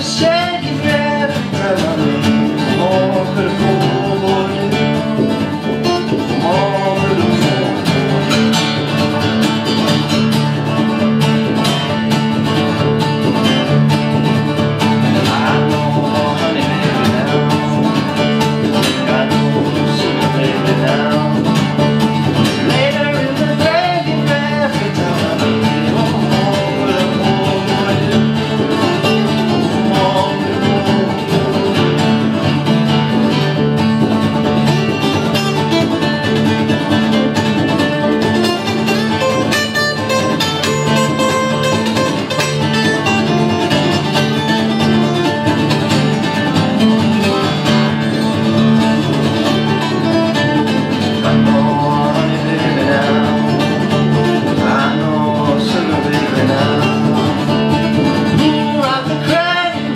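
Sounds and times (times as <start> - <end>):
picked banjo: 0.0 - 59.9
strummed acoustic guitars: 0.0 - 59.9
upright bass: 0.0 - 59.9.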